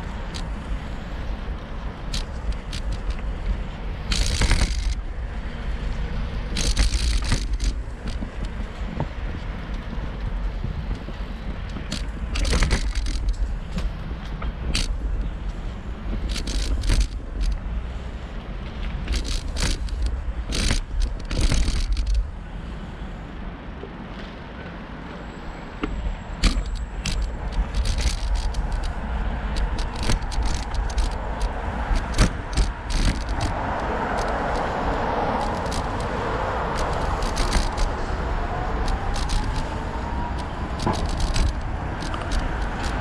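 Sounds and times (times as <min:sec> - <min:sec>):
bicycle clicks and rattles: 0:00.0 - 0:22.5, 0:25.8 - 0:43.0
rushing noise: 0:00.0 - 0:43.0
wind buffeting microphone: 0:00.0 - 0:43.0.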